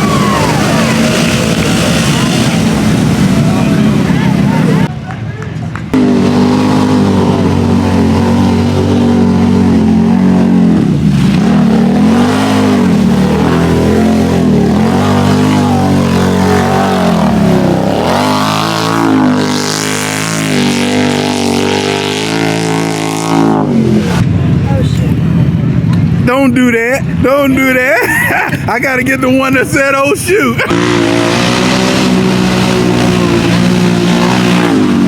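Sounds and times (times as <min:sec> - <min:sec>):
off-road vehicle engine revving: 0:00.0 - 0:04.9, 0:05.8 - 0:26.3, 0:30.5 - 0:35.0.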